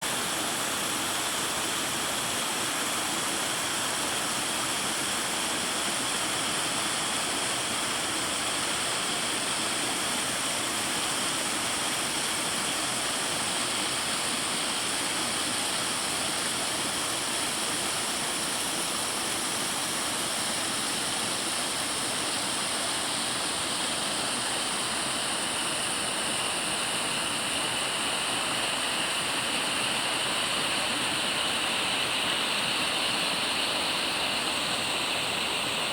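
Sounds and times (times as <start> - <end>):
waterfall hissing: 0.0 - 35.9.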